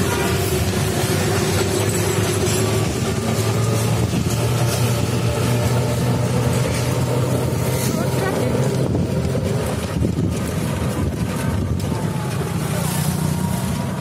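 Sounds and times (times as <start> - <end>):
steady engine hum: 0.0 - 14.0
train carriages running past: 0.0 - 14.0.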